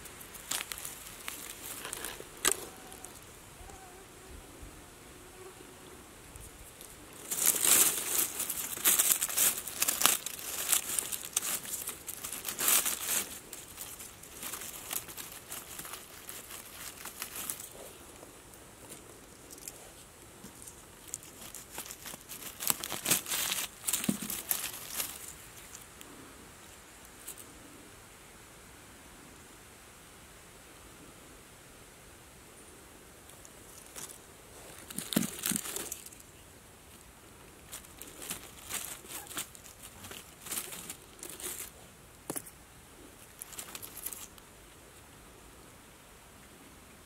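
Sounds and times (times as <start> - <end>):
dry leaves and twigs rustling: 0.0 - 27.5, 33.2 - 45.1.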